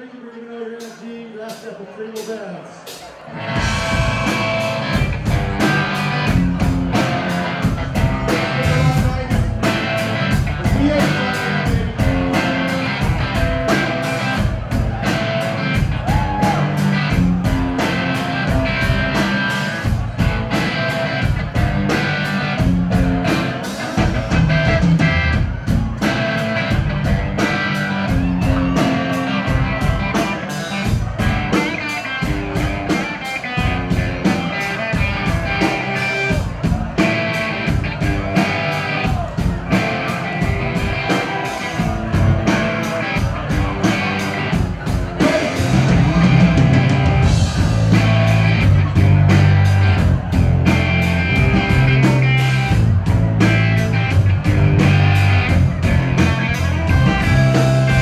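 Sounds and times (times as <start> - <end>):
drum kit beat: 0.8 - 58.0
bass guitar: 3.1 - 58.0
electric guitar: 3.2 - 58.0.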